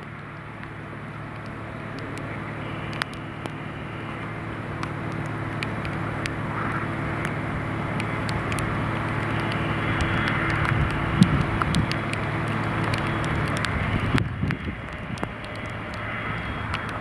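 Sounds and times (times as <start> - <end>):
jet engines humming and whining: 0.0 - 17.0
raindrops ticking: 0.0 - 17.0.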